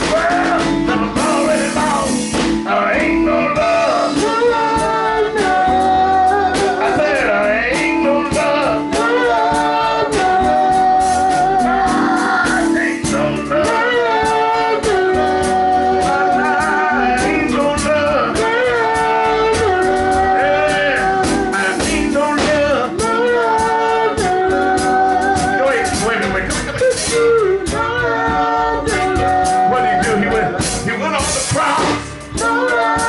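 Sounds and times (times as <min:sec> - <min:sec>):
gospel group singing: 0:00.0 - 0:33.0
live band playing: 0:00.0 - 0:33.0.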